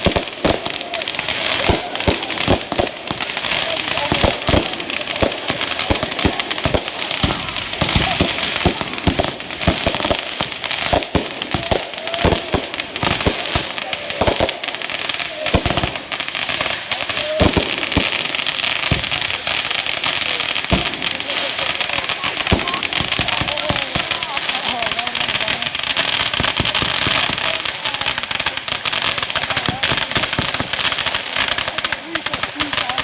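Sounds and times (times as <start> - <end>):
fireworks crackling: 0.0 - 33.0
fireworks pops and bangs: 0.0 - 33.0.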